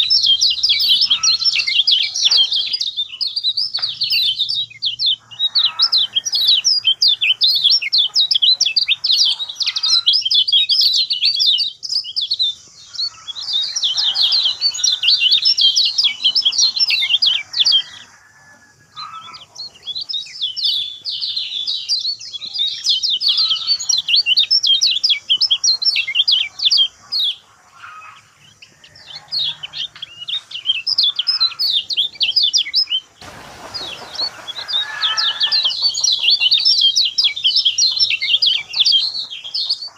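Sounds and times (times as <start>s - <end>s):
birds twittering song: 0.0s - 39.9s.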